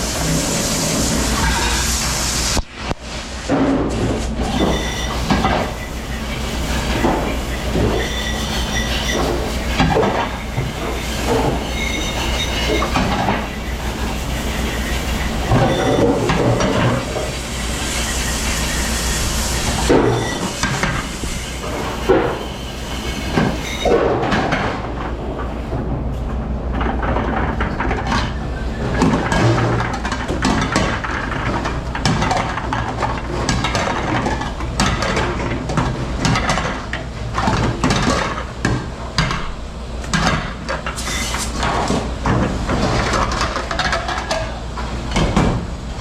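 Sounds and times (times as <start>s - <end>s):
dishwashing machine humming: 0.0s - 46.0s.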